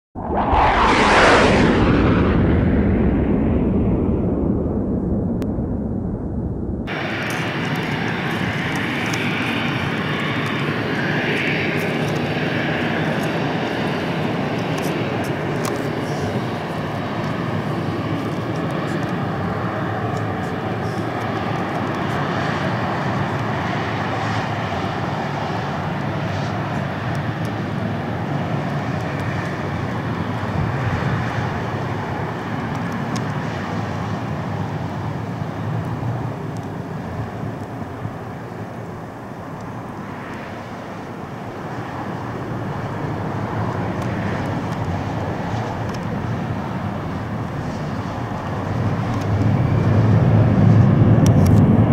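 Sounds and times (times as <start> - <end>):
high jet whine: 0.2 - 51.9
jet engines roaring: 0.2 - 51.9.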